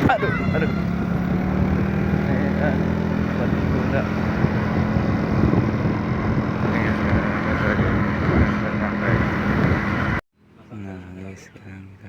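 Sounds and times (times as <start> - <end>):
vehicle engine running: 0.0 - 10.2
wind noise on microphone: 0.0 - 10.2.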